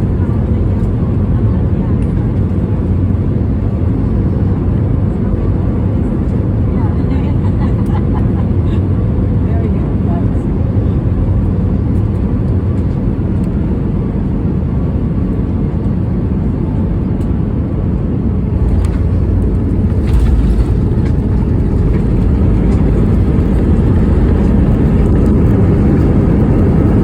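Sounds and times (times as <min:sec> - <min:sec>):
jet landing rumble: 0:00.0 - 0:27.0.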